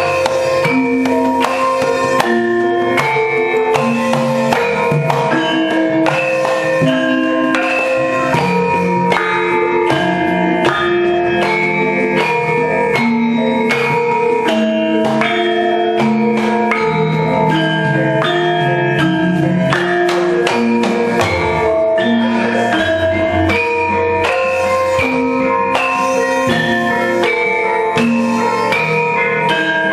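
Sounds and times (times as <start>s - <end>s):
drumming: 0.0s - 29.9s
metallophones and gongs ringing: 0.0s - 29.9s.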